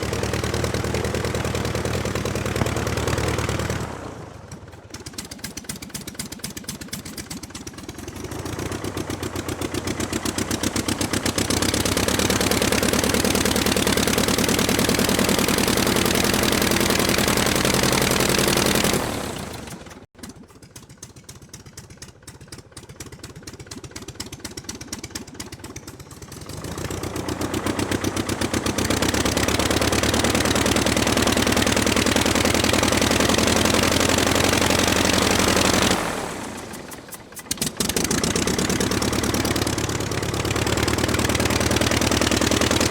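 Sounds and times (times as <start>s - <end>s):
aircraft piston engine running: 0.0s - 42.9s.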